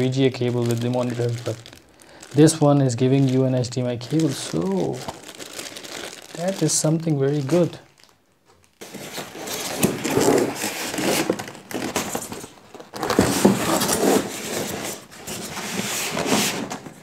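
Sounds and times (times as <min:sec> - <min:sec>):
polystyrene foam scraping and rustling: 0:00.0 - 0:07.8, 0:08.8 - 0:17.0.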